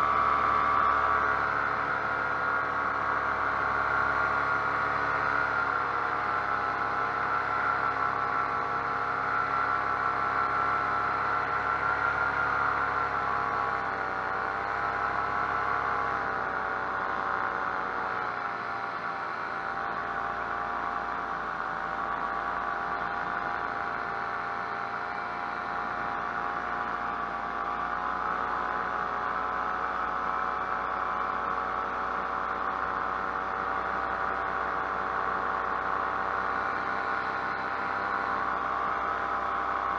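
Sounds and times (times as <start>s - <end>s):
paramotor engine and propeller droning: 0.0s - 39.9s.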